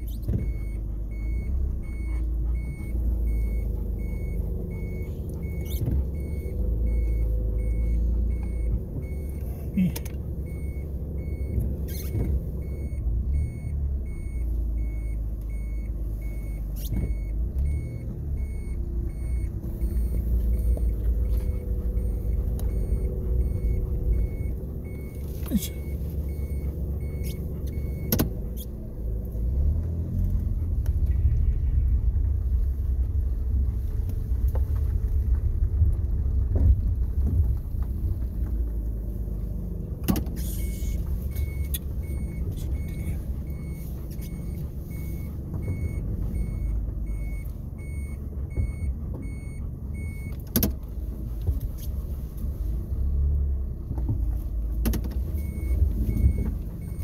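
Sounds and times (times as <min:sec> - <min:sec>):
car electronic beep: 0:00.0 - 0:35.7, 0:40.0 - 0:50.8, 0:54.9 - 0:57.0
car engine and road rumble: 0:00.0 - 0:57.0.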